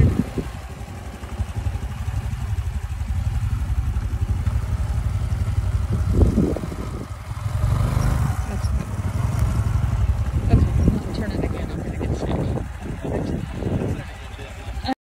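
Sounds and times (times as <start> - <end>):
motorcycle engine pulsing: 0.0 - 15.0.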